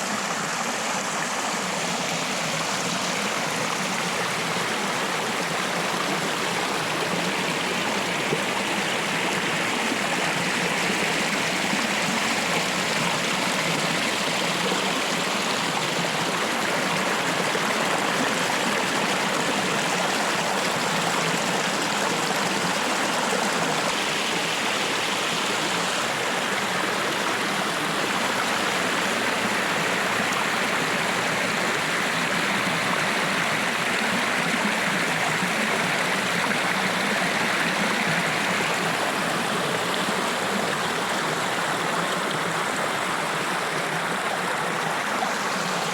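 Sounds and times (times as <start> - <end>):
water rushing down small waterfall: 0.0 - 45.9.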